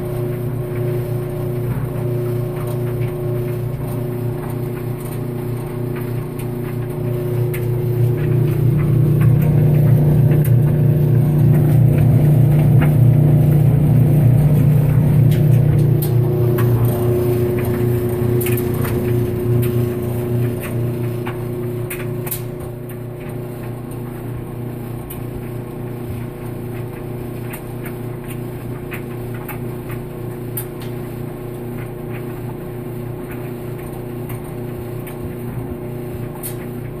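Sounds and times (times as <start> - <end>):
clothes dryer humming and grinding: 0.0 - 37.0.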